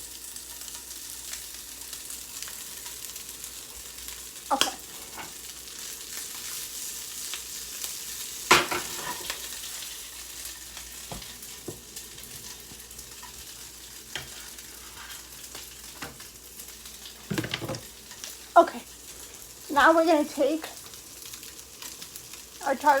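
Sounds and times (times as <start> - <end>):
food sizzling in a hot pan: 0.0 - 23.0.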